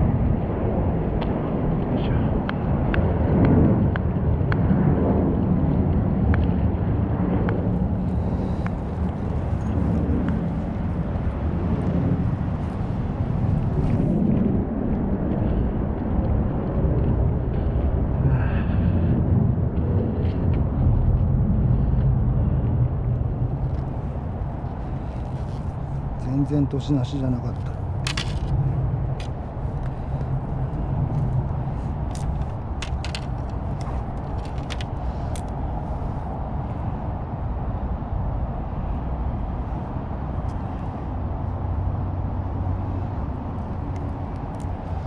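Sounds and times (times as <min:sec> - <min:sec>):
low steady rumbling: 0:00.0 - 0:45.0.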